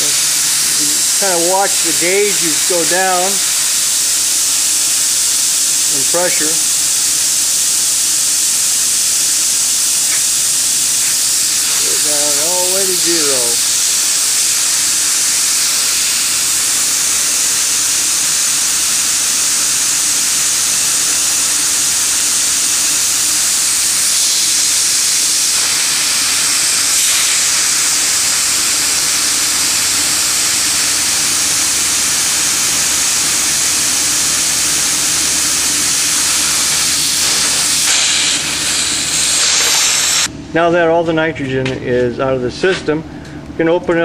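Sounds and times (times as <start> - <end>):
gas escaping with loud hiss: 0.0 - 40.3.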